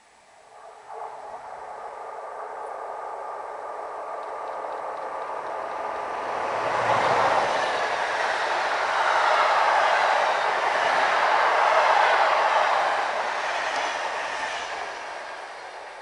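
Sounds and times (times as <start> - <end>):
electric train rushing rail noise: 0.0 - 16.0.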